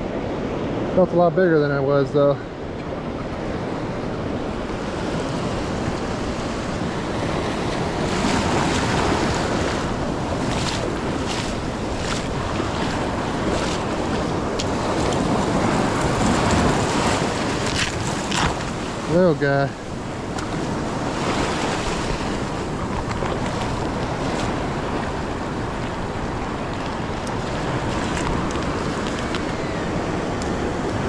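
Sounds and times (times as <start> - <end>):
ocean surf washing up: 0.0 - 31.0
wind buffeting microphone: 0.0 - 31.0.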